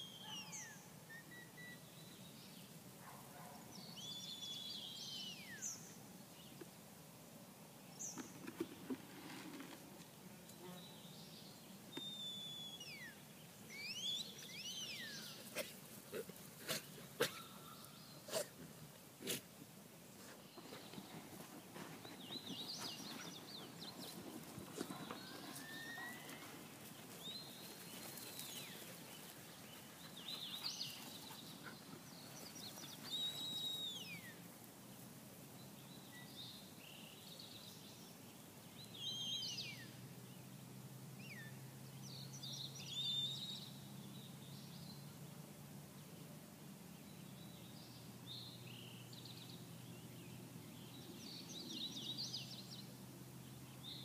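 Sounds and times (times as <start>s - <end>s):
songbird singing: 0.0s - 6.8s, 7.8s - 18.8s, 20.2s - 54.0s.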